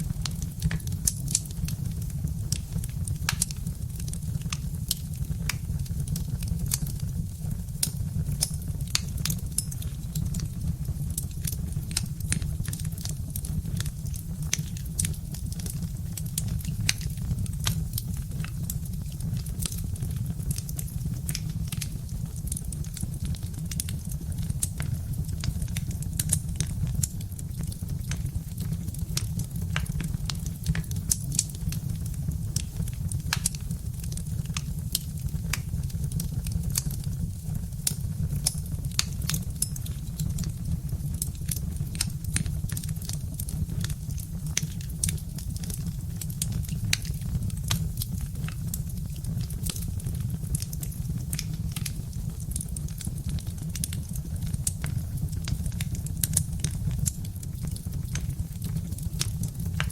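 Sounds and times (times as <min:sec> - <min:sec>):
log fire crackling: 0:00.0 - 0:59.9.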